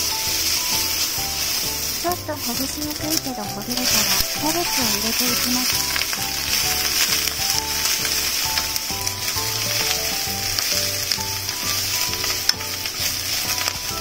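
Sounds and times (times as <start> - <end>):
background music with plucked notes: 0.0 - 14.0
chopsticks clicking against pan: 0.0 - 14.0
noodles sizzling in frying pan: 0.0 - 14.0.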